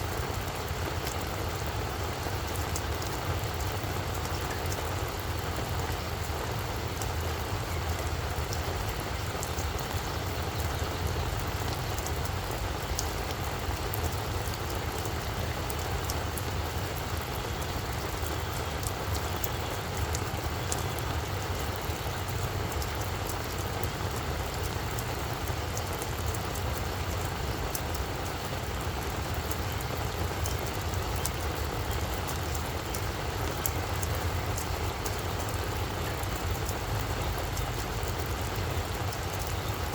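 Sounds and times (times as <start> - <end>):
raindrops ticking on leaves: 0.0 - 39.9
steady rain falling: 0.0 - 39.9.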